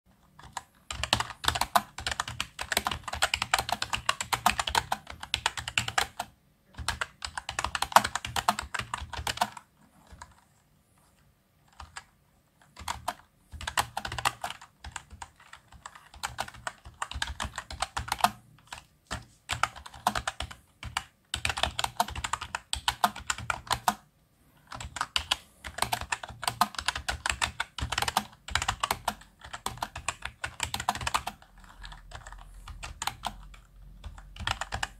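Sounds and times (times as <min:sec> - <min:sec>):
keyboard typing: 0:00.2 - 0:34.9.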